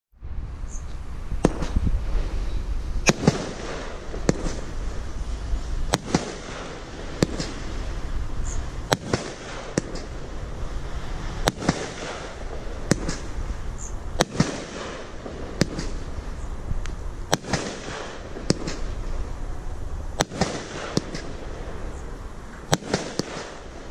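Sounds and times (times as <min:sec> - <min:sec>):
firework crackling hiss: 0:00.5 - 0:23.9
firework bangs: 0:01.4 - 0:23.9.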